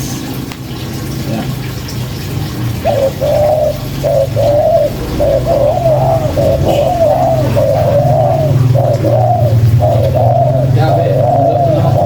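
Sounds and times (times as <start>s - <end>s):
steady low hum: 0.0s - 12.0s
dove cooing: 0.7s - 12.0s.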